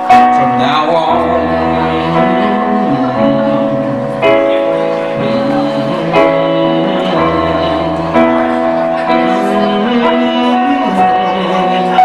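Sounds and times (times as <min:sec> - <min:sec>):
electronic keyboard ballad chords: 0:00.0 - 0:12.0.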